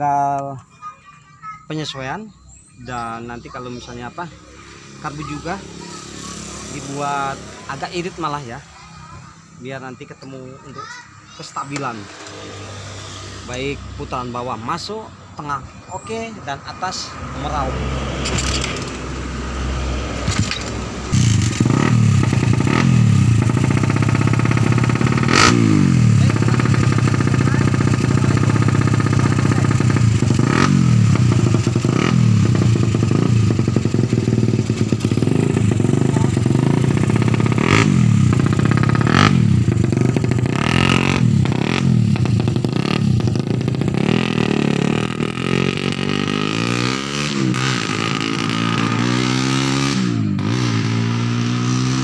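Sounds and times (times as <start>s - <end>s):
motorcycle engine revving: 3.0s - 10.2s, 11.1s - 15.1s, 16.9s - 52.0s.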